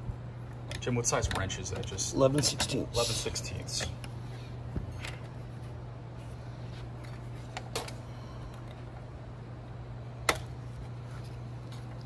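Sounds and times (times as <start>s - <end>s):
blower humming: 0.0s - 12.0s.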